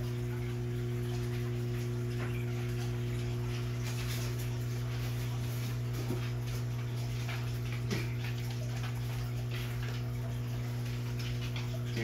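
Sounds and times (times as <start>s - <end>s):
air bubbles ticking: 0.0s - 12.0s
aquarium equipment humming: 0.0s - 12.0s.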